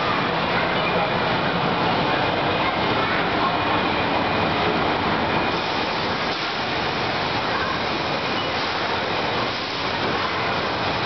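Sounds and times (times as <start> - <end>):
air blowers rushing: 0.0 - 11.0.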